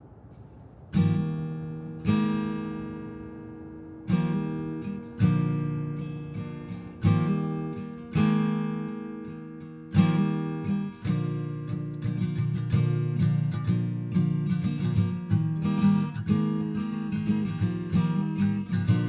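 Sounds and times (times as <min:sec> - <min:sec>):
acoustic guitar strummed chords: 0:00.9 - 0:19.0.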